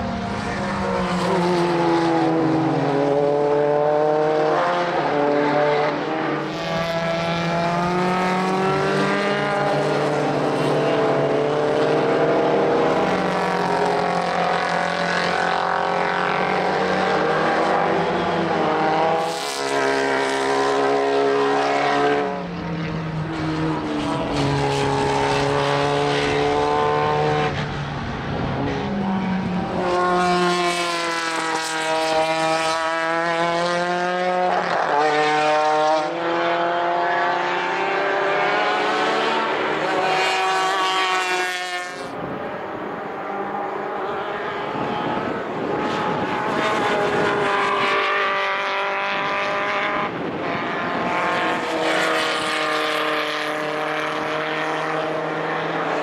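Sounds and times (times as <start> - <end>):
racing car engines accelerating: 0.0 - 56.0.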